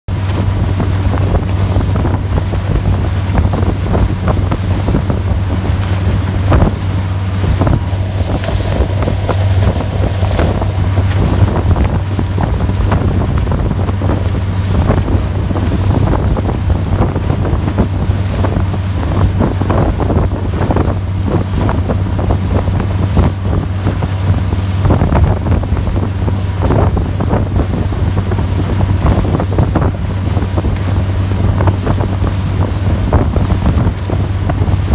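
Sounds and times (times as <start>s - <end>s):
boat engine drone: 0.1s - 34.9s
rushing splashing water: 0.1s - 34.9s
wind buffeting microphone: 0.1s - 34.9s.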